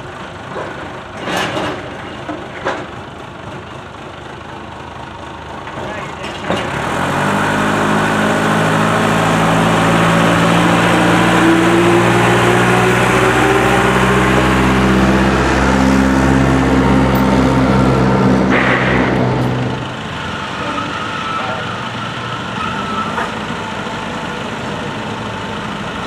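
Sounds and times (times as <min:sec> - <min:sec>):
tractor engine under load: 0:00.0 - 0:21.7.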